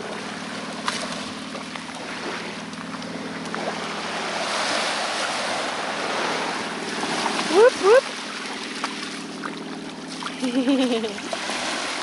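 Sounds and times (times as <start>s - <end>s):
small waves lapping on beach: 0.0s - 12.0s
steady low hum: 0.0s - 12.0s.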